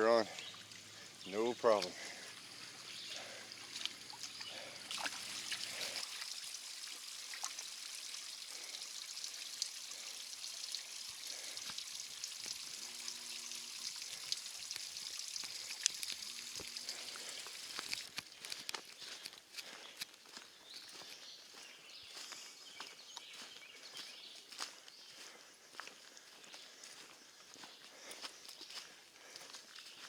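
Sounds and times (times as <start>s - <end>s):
creek trickling: 0.0s - 30.0s.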